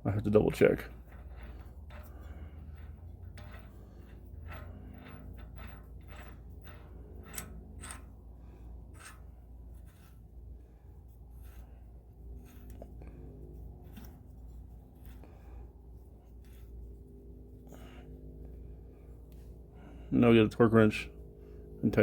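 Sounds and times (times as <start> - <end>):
steady low hum: 0.0 - 22.0
light clicks and scrapes of tools: 0.5 - 19.5.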